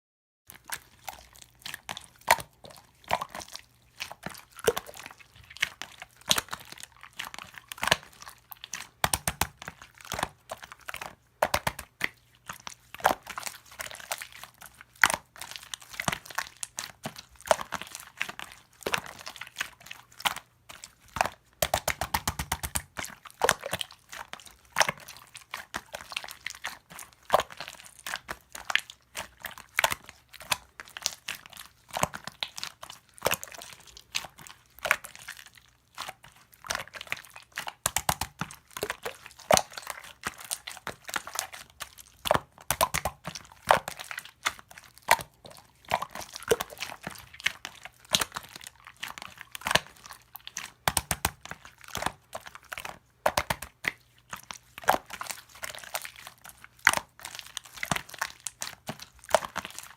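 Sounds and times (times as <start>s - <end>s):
crunching and crinkling crackles: 0.5s - 59.9s.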